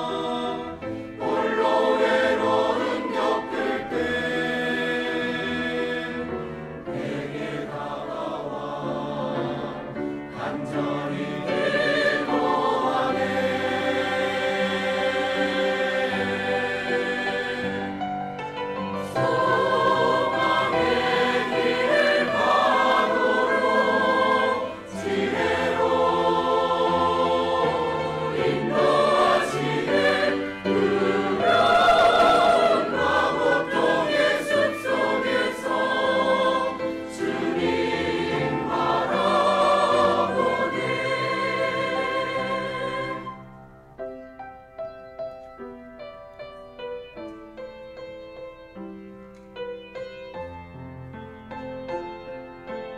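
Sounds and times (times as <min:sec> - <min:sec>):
mixed choir singing: 0:00.0 - 0:18.2, 0:18.8 - 0:43.6.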